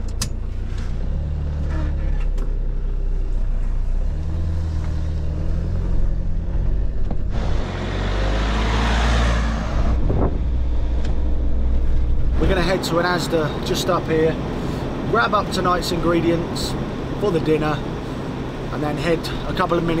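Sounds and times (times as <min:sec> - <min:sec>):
van diesel engine accelerating: 0:00.0 - 0:20.0.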